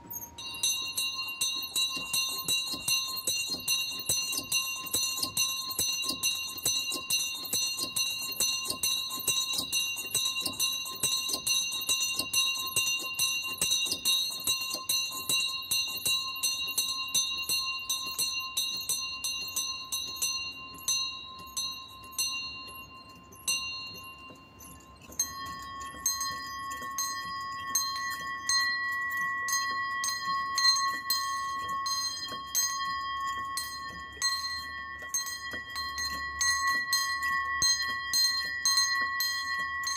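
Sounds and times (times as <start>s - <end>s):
small swinging bells ringing: 0.0s - 39.9s.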